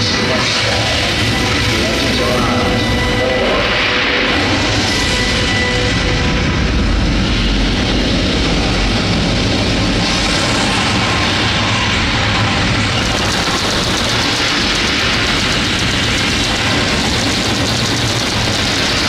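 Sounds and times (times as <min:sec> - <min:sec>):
rocket engine rumble: 0:00.0 - 0:19.0.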